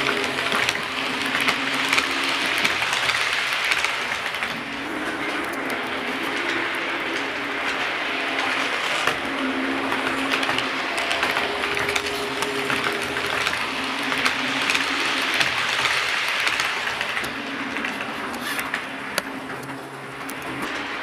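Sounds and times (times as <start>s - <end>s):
model train motor humming: 0.0s - 21.0s
wheels clicking over rail joints: 0.0s - 21.0s.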